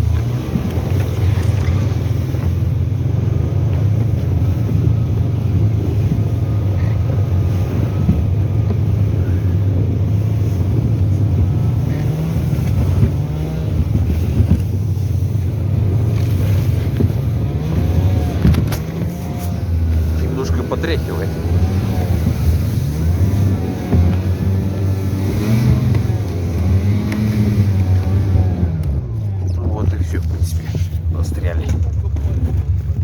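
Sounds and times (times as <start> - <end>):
off-road vehicle engine droning: 0.0 - 33.0.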